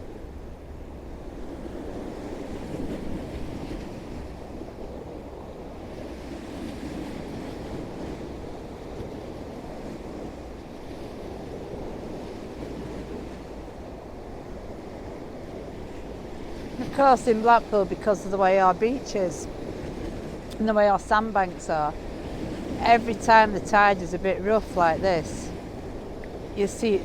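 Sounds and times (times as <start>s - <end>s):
waves washing against seafront: 0.0s - 27.0s
wind buffeting microphone: 0.0s - 27.0s.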